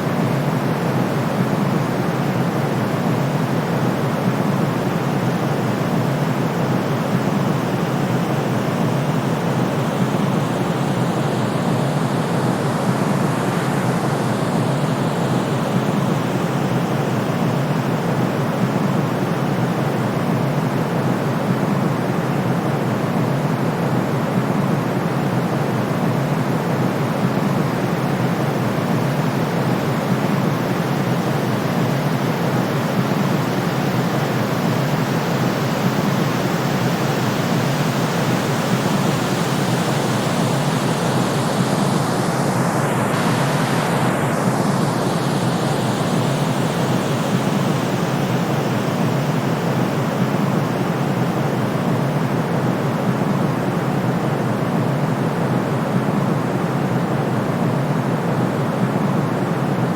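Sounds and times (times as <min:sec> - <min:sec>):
deep white noise hiss: 0:00.0 - 0:59.9.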